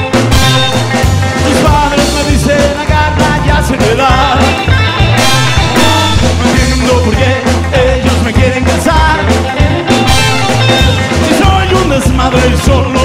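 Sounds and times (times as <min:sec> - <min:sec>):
bass line: 0:00.0 - 0:13.0
rockabilly band playing live: 0:00.0 - 0:13.0.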